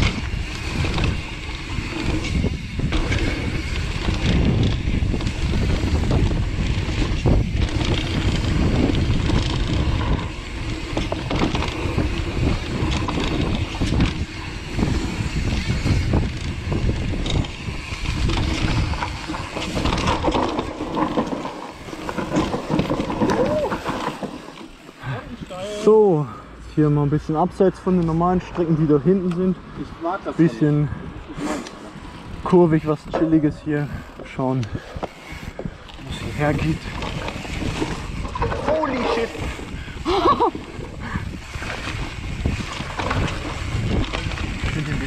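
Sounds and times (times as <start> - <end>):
bike rattling and knocking: 0.0 - 25.5, 31.9 - 45.0
wind buffeting microphone: 0.0 - 25.5, 28.2 - 45.0
knobby tyres rolling on dirt: 0.0 - 45.0.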